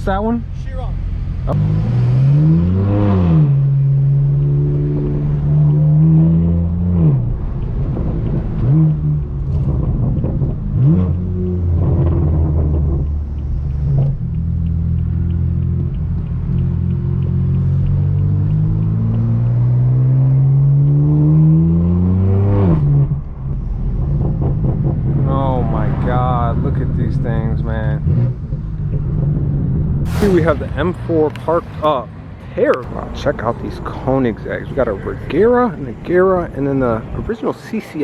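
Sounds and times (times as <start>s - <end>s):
loud car exhaust revving: 0.0s - 37.4s.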